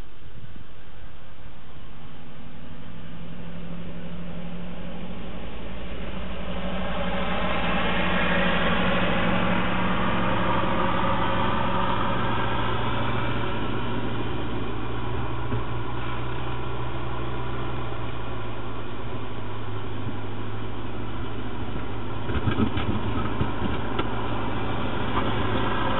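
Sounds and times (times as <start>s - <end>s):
tractor engine running: 2.0s - 25.9s.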